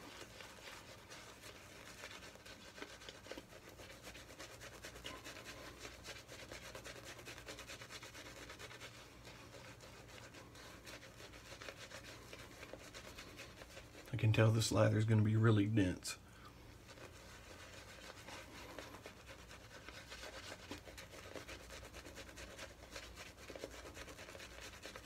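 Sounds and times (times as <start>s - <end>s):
shaving brush scrubbing lather: 0.0s - 25.0s.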